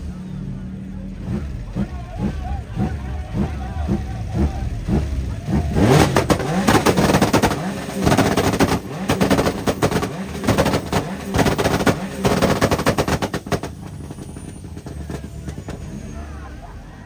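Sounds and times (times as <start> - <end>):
car engine revving: 0.0 - 17.0
exhaust pops and bangs: 1.3 - 16.2.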